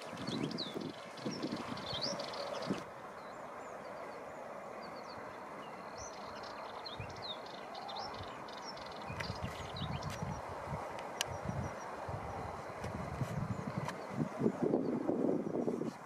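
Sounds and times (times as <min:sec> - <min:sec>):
small birds chirping: 0:00.0 - 0:16.0
steady outdoor hiss: 0:00.0 - 0:16.0.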